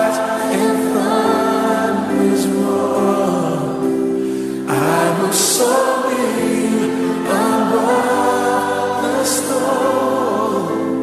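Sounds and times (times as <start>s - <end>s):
choir singing over held chords: 0.0s - 11.0s.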